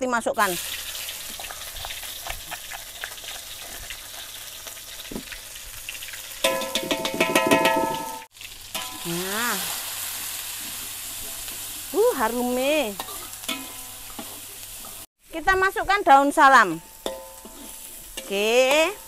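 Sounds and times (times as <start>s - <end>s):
spice paste sizzling in oil: 0.4s - 19.0s.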